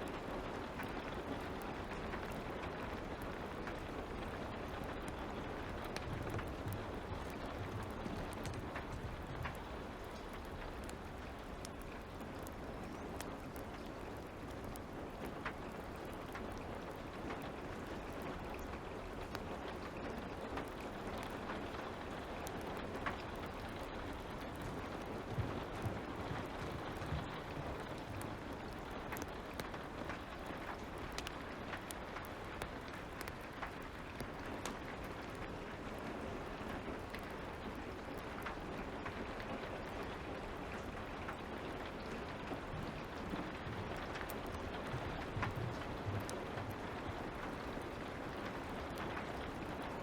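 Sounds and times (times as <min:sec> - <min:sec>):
steady light rain: 0:00.0 - 0:50.0
wood fire crackling: 0:00.0 - 0:50.0.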